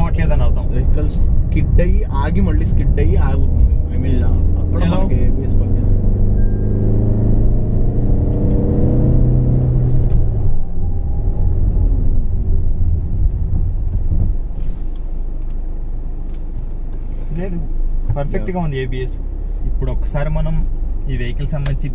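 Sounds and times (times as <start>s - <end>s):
car engine accelerating: 0.0s - 21.9s
road noise: 0.0s - 21.9s.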